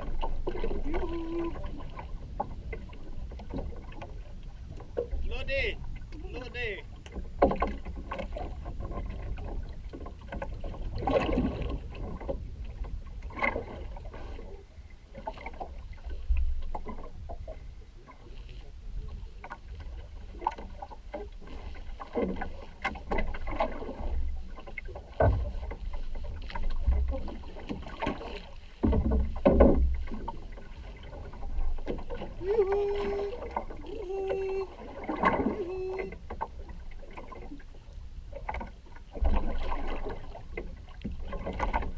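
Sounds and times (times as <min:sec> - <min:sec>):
water splashing and sloshing: 0:00.0 - 0:41.9.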